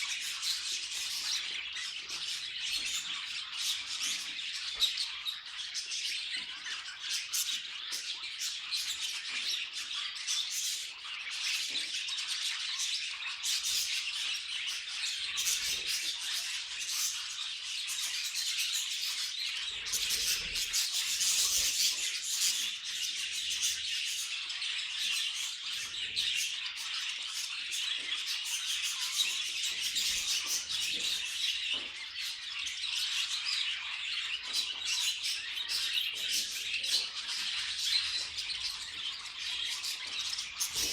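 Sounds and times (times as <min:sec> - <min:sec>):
budgies chattering and chirping: 0:00.0 - 0:40.9.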